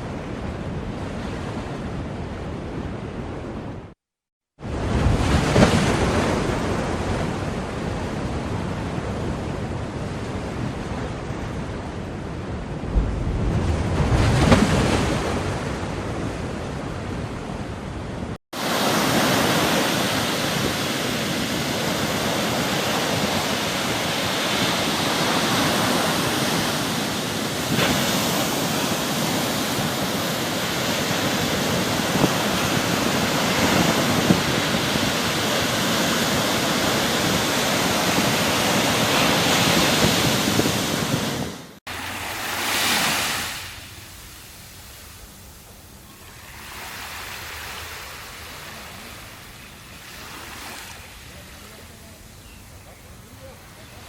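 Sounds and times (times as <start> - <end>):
large wave breaking: 4.6 - 9.5, 10.2 - 52.3
ocean waves washing on shore: 4.6 - 54.0.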